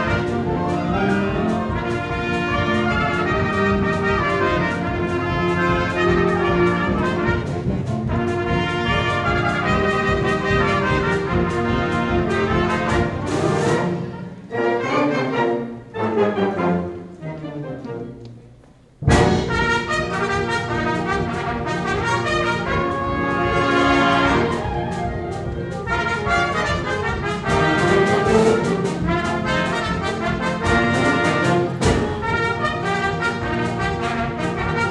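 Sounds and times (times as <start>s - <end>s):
brass band playing: 0.0s - 34.9s.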